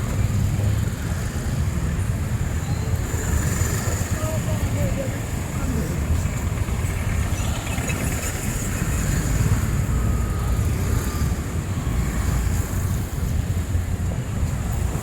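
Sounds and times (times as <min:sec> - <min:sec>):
passing traffic rumble: 0:00.0 - 0:15.0.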